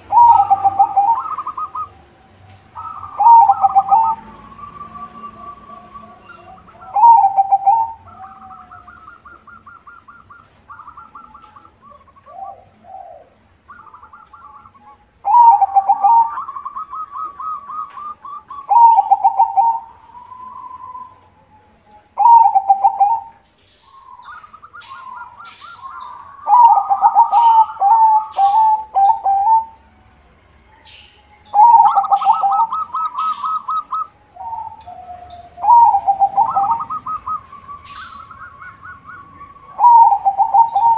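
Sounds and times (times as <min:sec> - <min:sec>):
dove cooing: 0:00.0 - 0:29.8, 0:31.5 - 0:40.9
small birds chirping: 0:00.0 - 0:29.8, 0:30.7 - 0:40.9.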